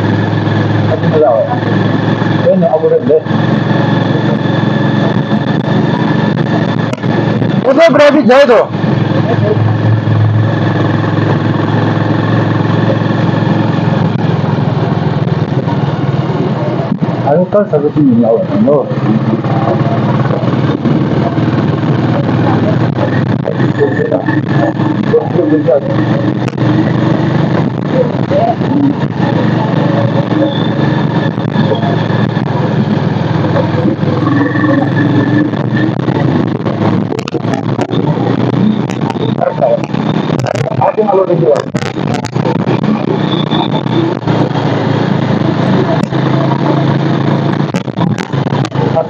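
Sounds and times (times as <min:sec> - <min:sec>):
small motorcycle engine running: 0:00.0 - 0:49.0.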